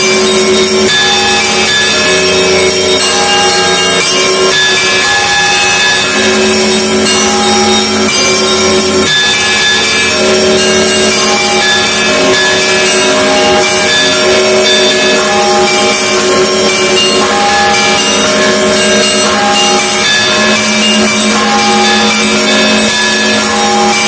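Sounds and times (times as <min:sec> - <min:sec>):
church bells pealing: 0:00.0 - 0:24.0.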